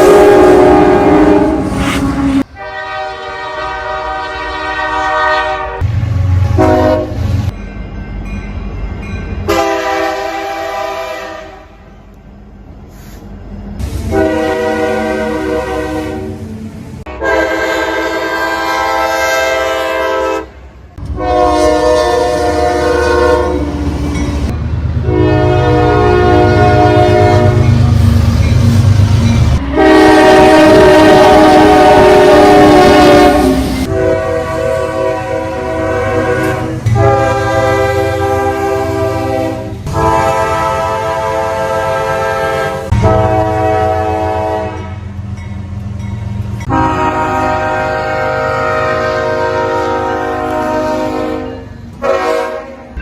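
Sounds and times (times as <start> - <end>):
locomotive chord horns blowing: 0.0 - 7.5, 9.4 - 12.0, 13.8 - 24.2, 25.0 - 45.2, 46.6 - 53.0
low rumble of passing train: 0.0 - 53.0.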